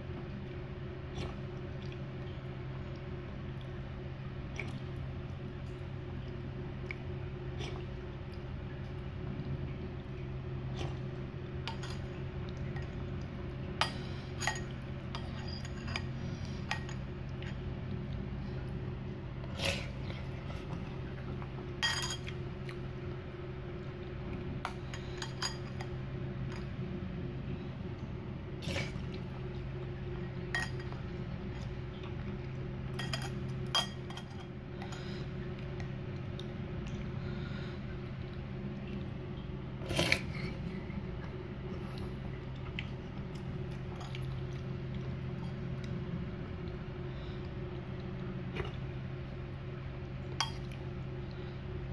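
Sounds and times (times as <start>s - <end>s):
low hum: 0.0s - 51.9s.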